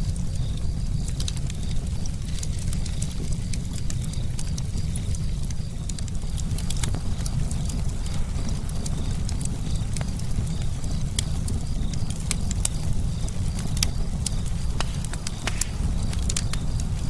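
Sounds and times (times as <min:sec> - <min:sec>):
burning wood popping and snapping: 0:00.0 - 0:17.0
low rumble of flames: 0:00.0 - 0:17.0.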